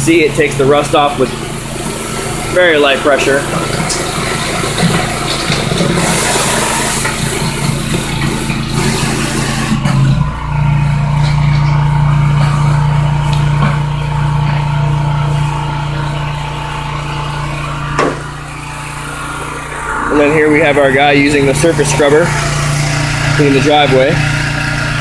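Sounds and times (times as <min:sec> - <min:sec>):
water spray hissing: 0:00.0 - 0:09.9, 0:11.8 - 0:25.0
pressure washer engine running: 0:00.0 - 0:25.0.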